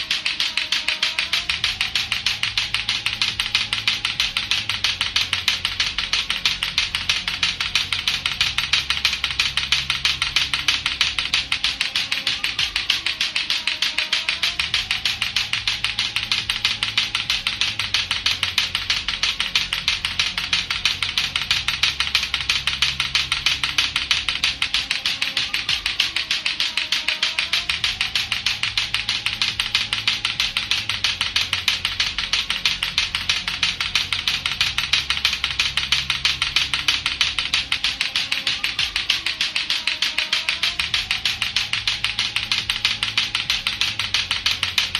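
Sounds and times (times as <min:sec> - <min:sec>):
plastic clacker balls clacking: 0:00.0 - 0:44.9.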